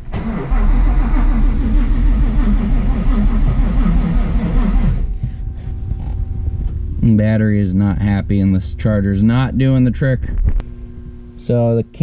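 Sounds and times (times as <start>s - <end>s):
supercharged engine running choppy: 0.4s - 10.6s.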